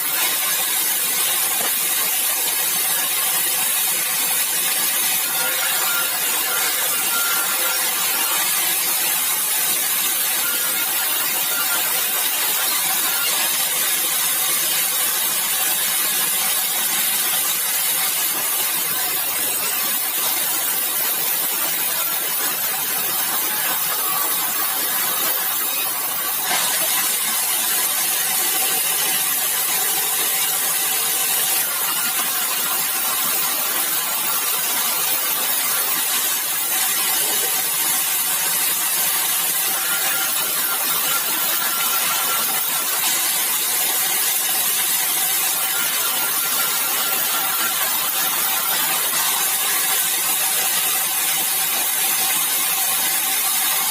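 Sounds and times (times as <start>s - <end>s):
sawmill machine sawing wood: 0.0s - 53.9s.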